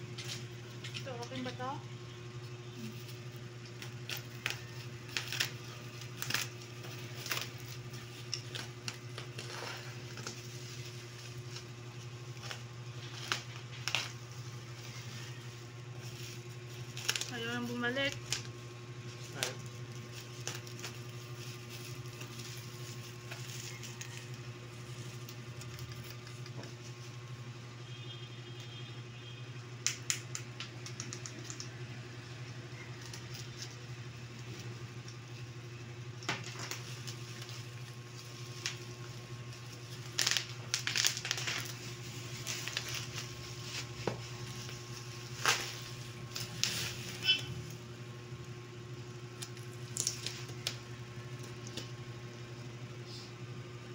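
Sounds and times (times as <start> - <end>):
steady low hum: 0.0 - 53.9
plastic packaging crinkling: 2.3 - 27.3, 32.8 - 48.1, 49.0 - 52.1.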